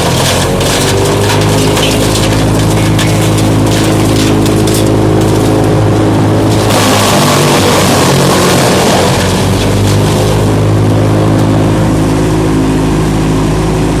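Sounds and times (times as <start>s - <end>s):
wood chipper diesel engine: 0.0s - 14.0s.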